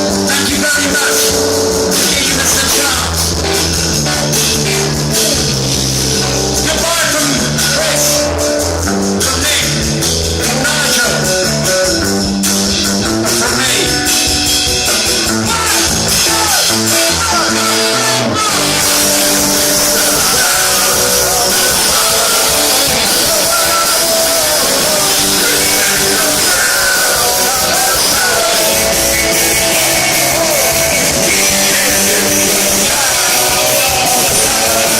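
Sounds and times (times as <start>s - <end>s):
bass line: 0.0s - 34.9s
electric guitar: 0.0s - 34.9s
punk rock band playing live: 0.0s - 34.9s.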